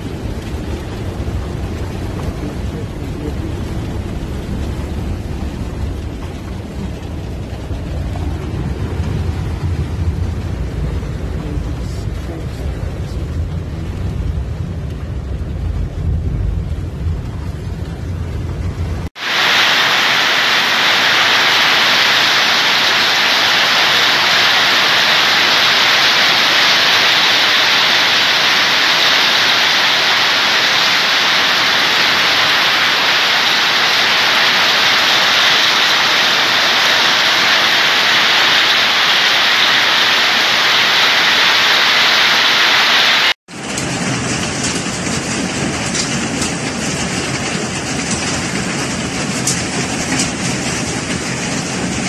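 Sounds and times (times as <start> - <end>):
hail and rain pelting down: 0.0 - 52.0.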